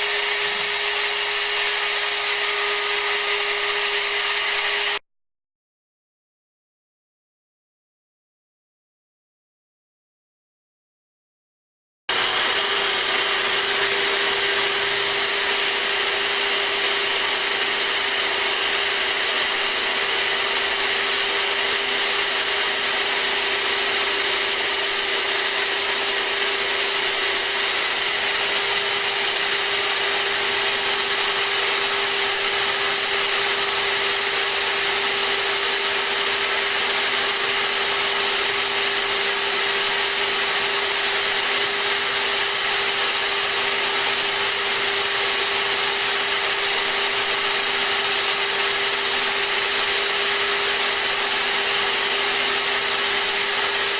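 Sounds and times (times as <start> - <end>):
cnc router spindle motor: 0.0 - 5.0, 12.1 - 53.9
shop vacuum running: 0.0 - 5.0, 12.1 - 53.9.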